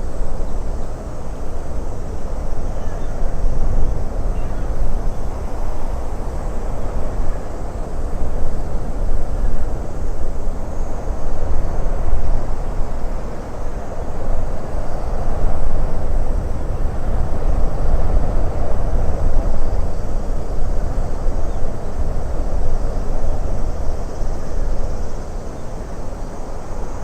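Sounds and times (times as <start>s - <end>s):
gusting wind: 0.0s - 27.0s.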